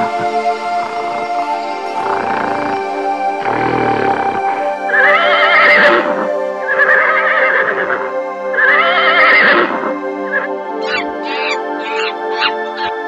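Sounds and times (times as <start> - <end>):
background music: 0.0 - 13.0
horse whinnying: 1.9 - 8.0, 8.6 - 13.0.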